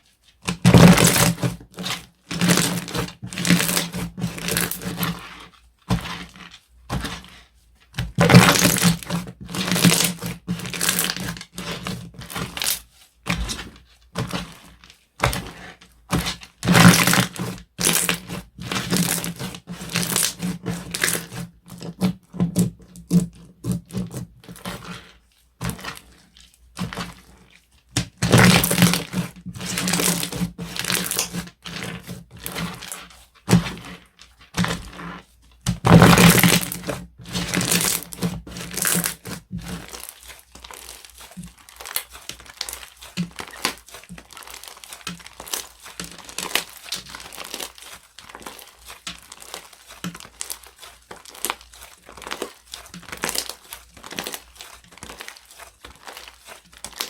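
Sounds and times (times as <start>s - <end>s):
slime crackling and crunching: 0.4s - 57.0s.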